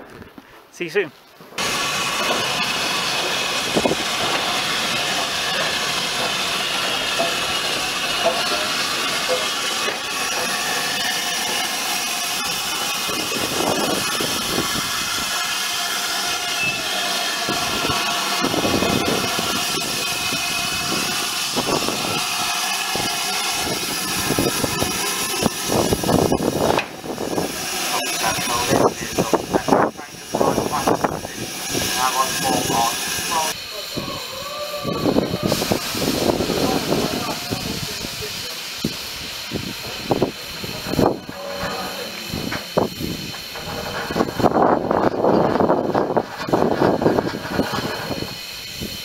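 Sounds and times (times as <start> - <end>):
steam locomotive hissing: 0.5 - 49.0.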